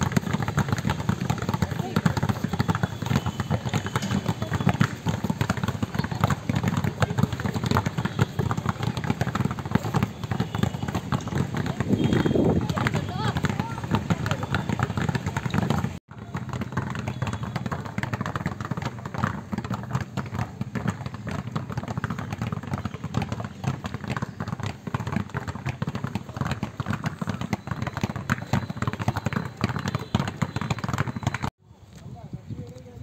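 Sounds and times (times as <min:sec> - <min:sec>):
basketballs bouncing on court: 0:00.0 - 0:31.5.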